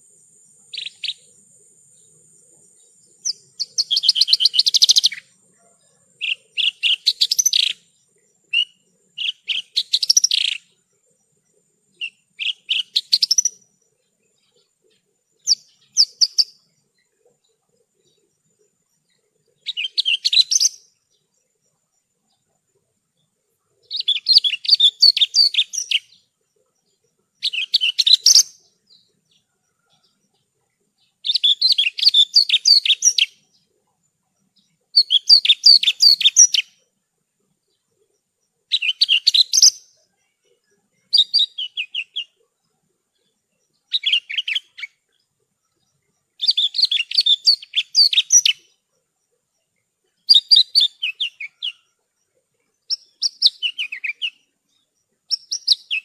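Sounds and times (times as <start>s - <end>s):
bushlark chirping song: 0.0s - 56.0s.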